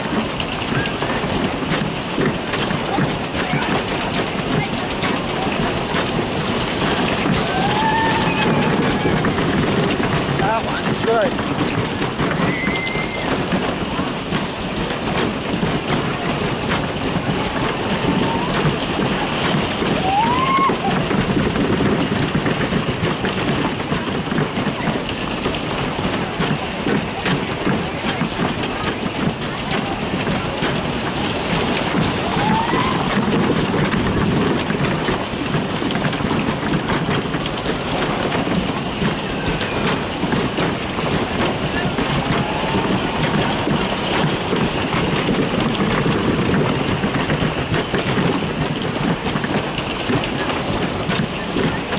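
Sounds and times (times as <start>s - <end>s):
ride car rattling along track: 0.0s - 51.9s.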